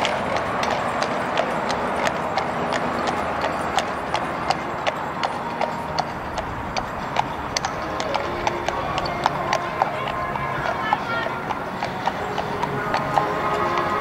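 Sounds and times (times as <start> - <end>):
horse hooves clip-clopping on road: 0.0 - 14.0
street noise: 0.0 - 14.0.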